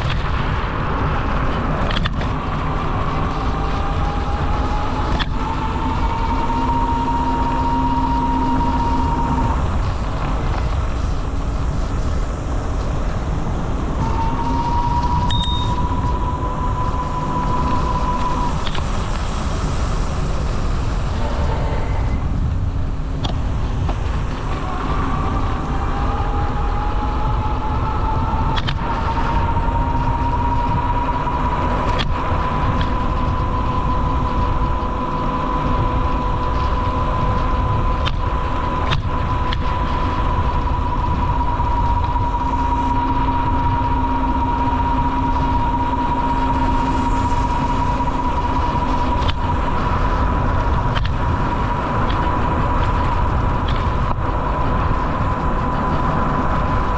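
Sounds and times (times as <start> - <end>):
high whine rising in pitch: 0.0 - 56.9
wind rumbling on microphone: 0.0 - 56.9.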